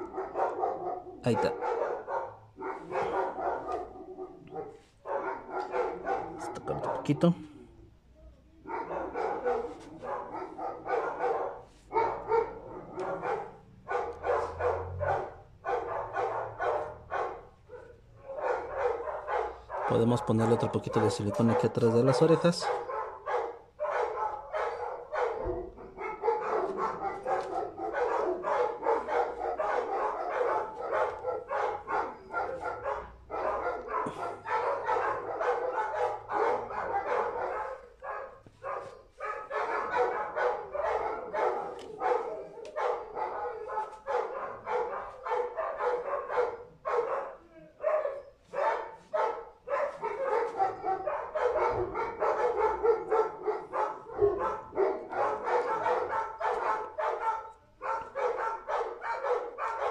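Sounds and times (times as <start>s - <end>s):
dog barking: 0.0s - 7.4s, 8.6s - 59.9s.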